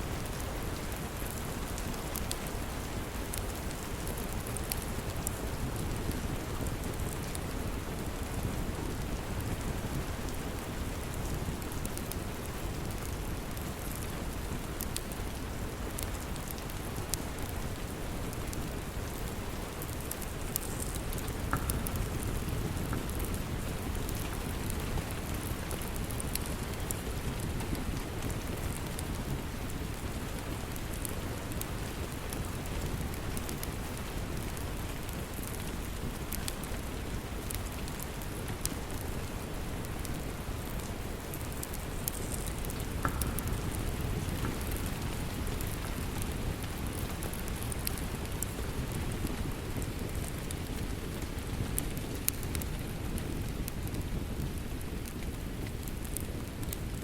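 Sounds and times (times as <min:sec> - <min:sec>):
steady heavy rain: 0:00.0 - 0:57.0
wood fire crackling and popping: 0:00.1 - 0:57.0.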